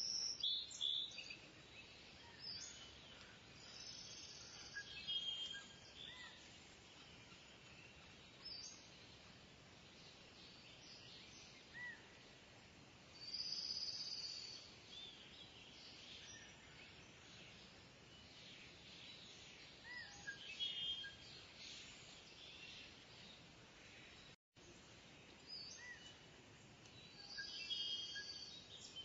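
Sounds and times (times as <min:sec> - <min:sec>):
faint birdsong chirps and trills: 0:00.0 - 0:29.0
steady outdoor hiss: 0:00.0 - 0:29.0.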